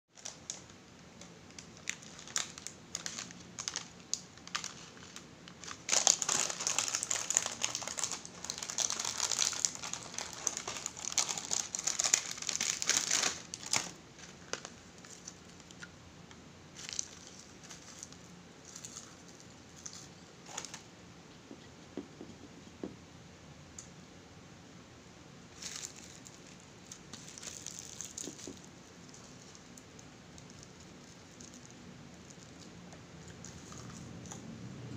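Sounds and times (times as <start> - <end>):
plastic snack packet crinkling: 0.2 - 15.9, 16.8 - 20.9, 25.5 - 34.3.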